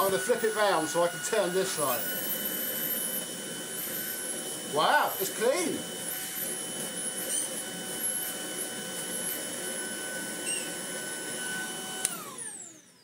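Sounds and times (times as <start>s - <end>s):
motor winding down: 0.0s - 13.0s
vacuum cleaner whine and hiss: 0.0s - 13.0s.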